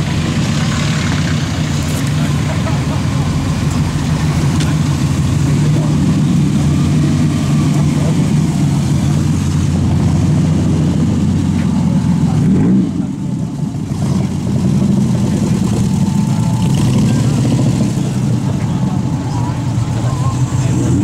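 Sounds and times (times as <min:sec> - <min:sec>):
engine revving: 0:00.0 - 0:21.0
sports car engines rumbling: 0:00.0 - 0:21.0
people chatting: 0:00.6 - 0:21.0.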